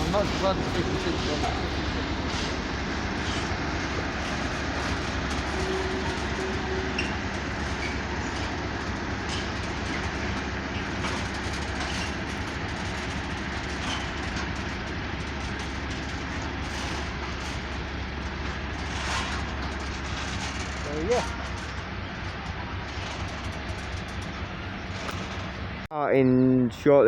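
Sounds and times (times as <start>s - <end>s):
train moving on rails: 0.0s - 25.9s.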